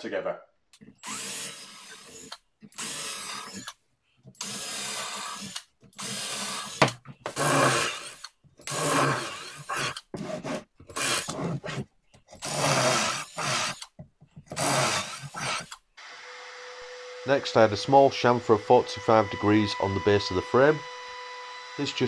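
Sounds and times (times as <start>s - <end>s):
cordless drill boring into wood: 0.9s - 3.8s, 4.4s - 10.2s, 10.9s - 11.6s, 12.4s - 22.0s.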